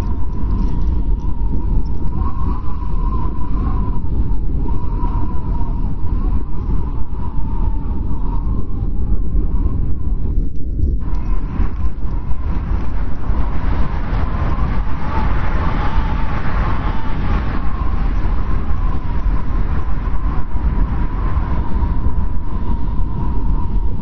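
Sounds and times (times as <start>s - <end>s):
strong wind rumbling and whistling: 0.0s - 24.0s.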